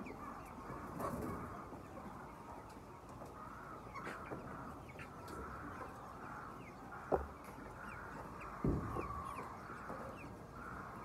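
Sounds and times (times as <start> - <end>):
flock of chickens clucking: 0.0 - 11.0.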